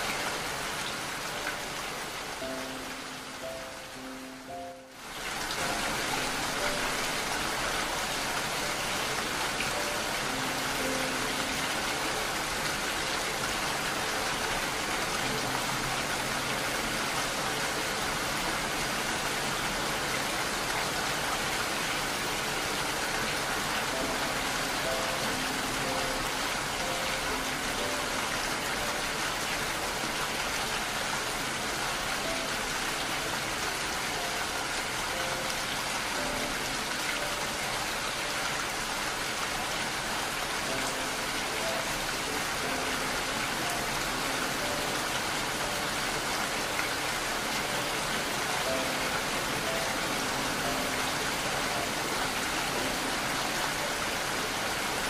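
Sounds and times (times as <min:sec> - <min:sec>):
heavy rain: 0:00.0 - 0:55.0
soft music notes: 0:00.0 - 0:55.0.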